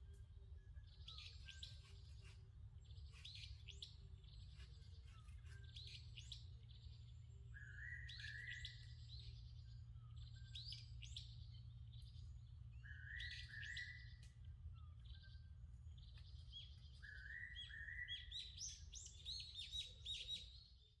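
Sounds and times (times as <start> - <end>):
bird singing: 0.0 - 21.0.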